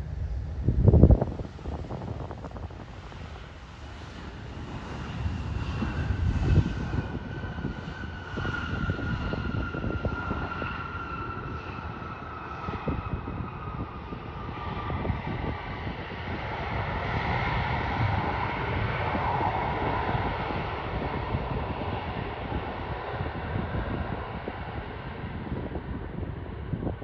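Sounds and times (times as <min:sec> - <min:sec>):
jet engines passing: 0:00.0 - 0:27.0.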